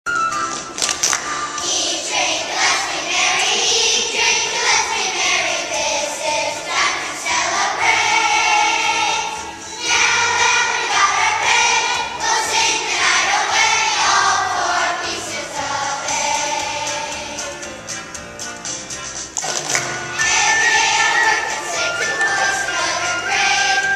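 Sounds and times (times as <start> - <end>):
children's choir singing: 1.2 - 17.9, 19.9 - 23.9.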